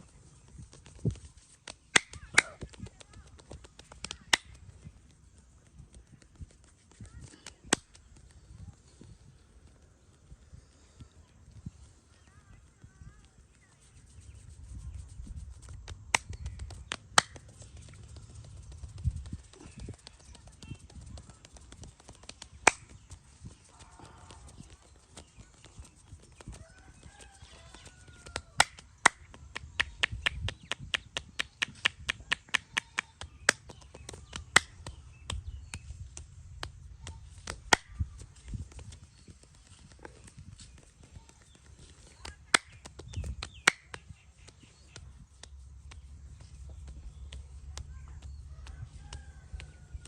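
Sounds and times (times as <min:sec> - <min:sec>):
hands smacking during massage: 0:00.4 - 0:08.4, 0:13.5 - 0:50.0.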